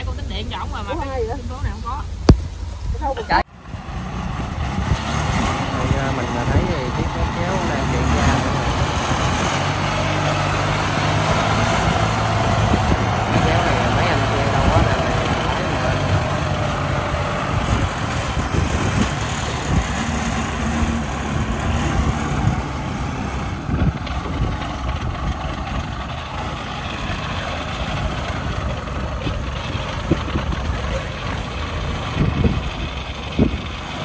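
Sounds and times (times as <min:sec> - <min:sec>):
tracked vehicle engine running: 0:00.0 - 0:34.0.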